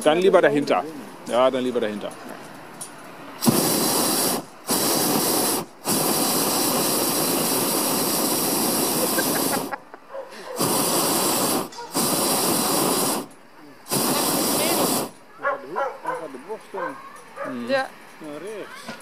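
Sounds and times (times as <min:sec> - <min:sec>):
propane burner firing: 0:00.0 - 0:15.3.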